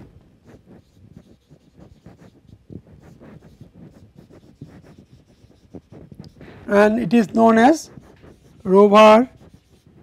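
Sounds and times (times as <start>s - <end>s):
marker scratching on whiteboard: 0.0s - 10.0s.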